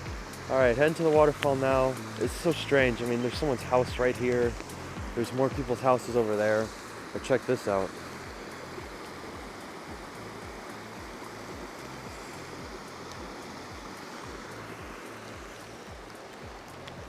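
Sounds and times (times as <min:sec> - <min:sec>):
rushing water: 0:00.0 - 0:17.0
soft background music beat: 0:00.0 - 0:17.0.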